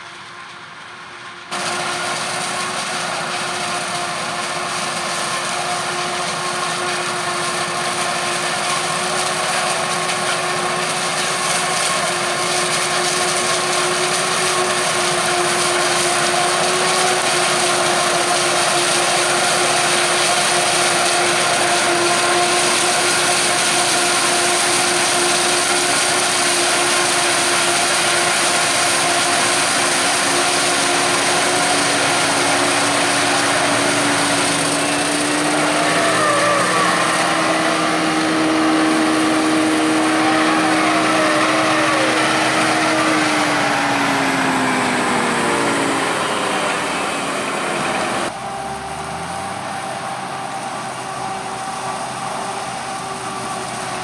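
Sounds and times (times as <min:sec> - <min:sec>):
harvester and tractor engines: 0:00.0 - 0:54.0.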